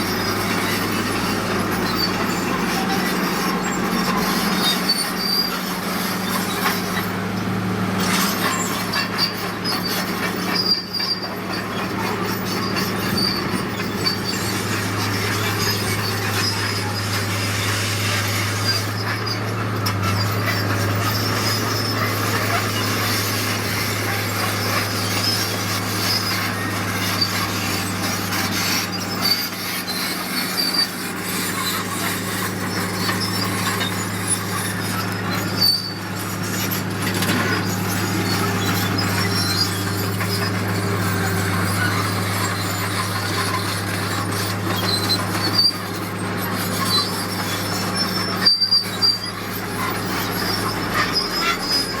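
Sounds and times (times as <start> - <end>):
diesel machinery engine hum: 0.0 - 52.0.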